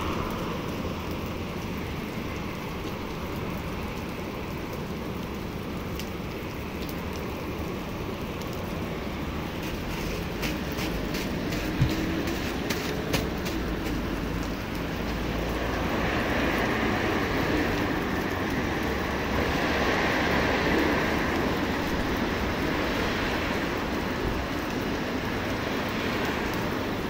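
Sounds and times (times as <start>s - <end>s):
heavy rain on pavement: 0.0s - 27.0s
raindrops ticking close by: 0.0s - 27.0s.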